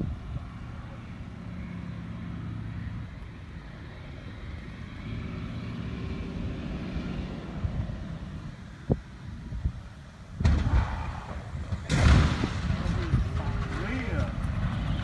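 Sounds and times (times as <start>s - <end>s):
biplane radial engine droning: 0.0s - 15.0s.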